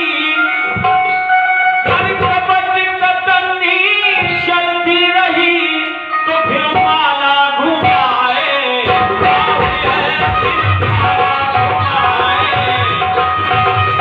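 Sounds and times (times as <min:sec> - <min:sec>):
person singing: 0:00.0 - 0:13.8
instrumental accompaniment: 0:00.0 - 0:14.0
tabla: 0:00.0 - 0:14.0.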